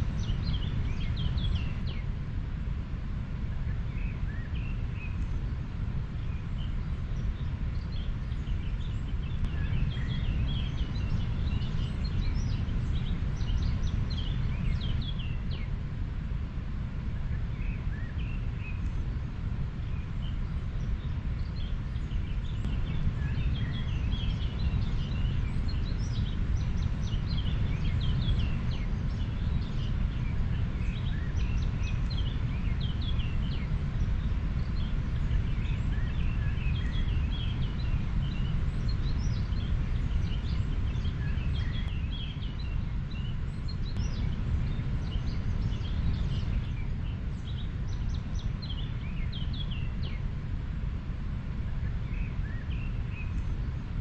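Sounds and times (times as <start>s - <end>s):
small birds chirping: 0.0s - 2.1s, 3.6s - 15.8s, 17.0s - 50.3s.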